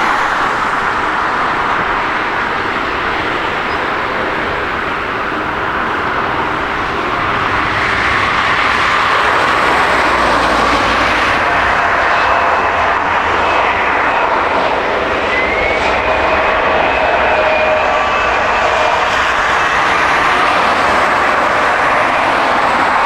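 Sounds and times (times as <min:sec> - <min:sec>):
jet engines running: 0:00.0 - 0:23.0
steady engine whine: 0:00.0 - 0:23.0.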